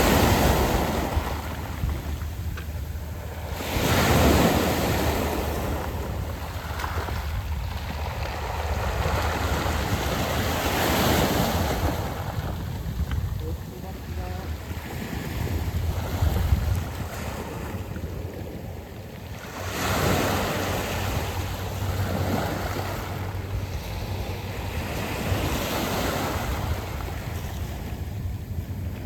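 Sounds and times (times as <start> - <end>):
waves washing over pebbles: 0.0 - 29.0
wind buffeting microphone: 0.0 - 29.0.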